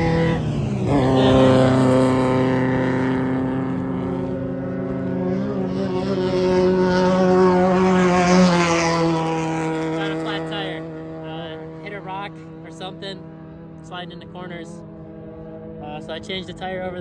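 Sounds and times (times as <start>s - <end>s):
utility vehicle engine running: 0.0s - 17.0s.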